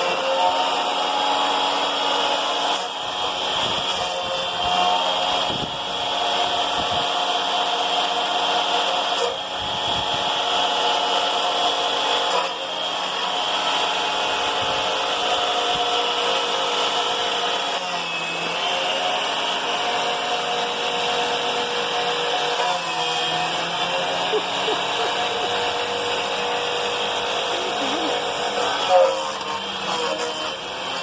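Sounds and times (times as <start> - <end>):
wood chipper motor whining: 0.0 - 31.0.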